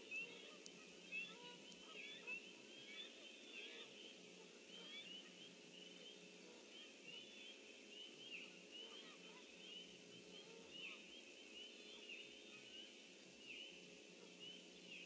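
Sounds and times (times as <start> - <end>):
low electrical hum: 0.0 - 15.0
small birds chirping: 0.0 - 15.0.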